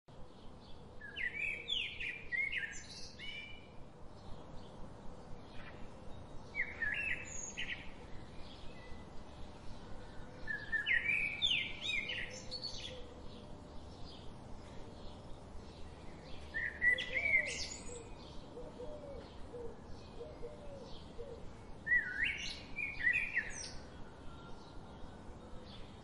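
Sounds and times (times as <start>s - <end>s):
outdoor background hiss: 0.1s - 26.0s
songbirds chirping: 0.1s - 26.0s.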